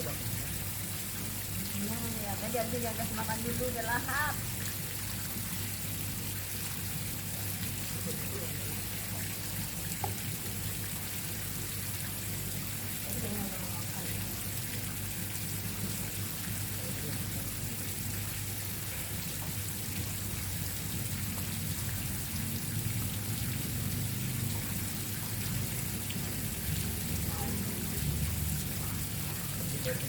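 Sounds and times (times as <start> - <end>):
water hissing like rain: 0.0 - 30.0.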